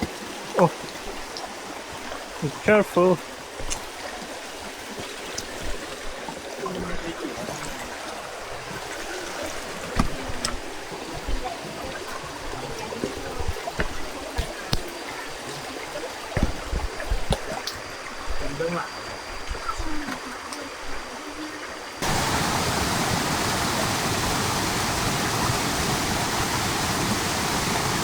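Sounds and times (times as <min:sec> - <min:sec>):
stream water flowing: 0:00.0 - 0:28.0.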